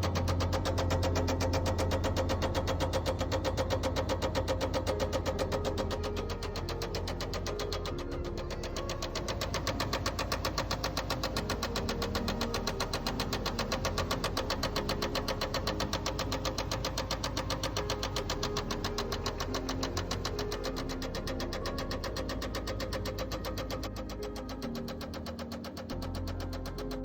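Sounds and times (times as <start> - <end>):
engine running with rapid knock: 0.0 - 27.0.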